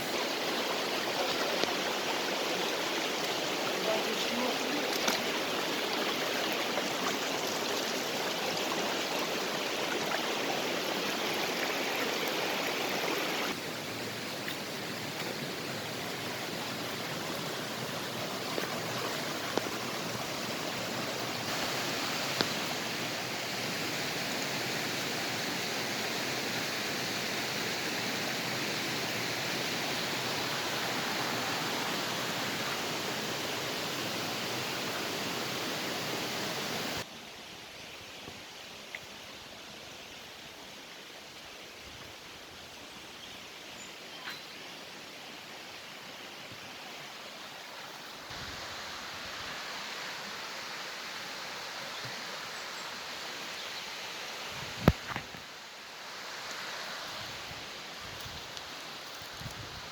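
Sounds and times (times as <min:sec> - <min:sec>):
rushing mountain creek: 0:00.0 - 0:59.9.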